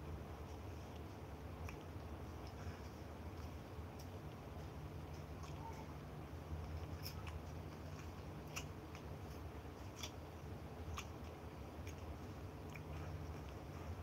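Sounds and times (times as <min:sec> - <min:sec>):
steady low hum: 0:00.0 - 0:14.0
person chewing with lip smacks: 0:00.4 - 0:05.9, 0:06.5 - 0:14.0.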